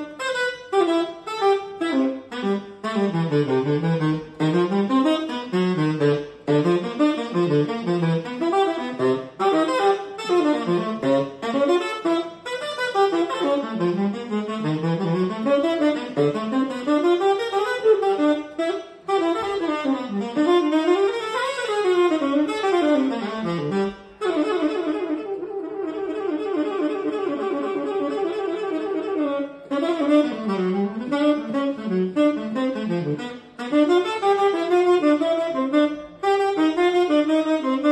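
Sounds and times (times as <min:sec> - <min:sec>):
tenor saxophone jazz lines: 0:00.0 - 0:37.9.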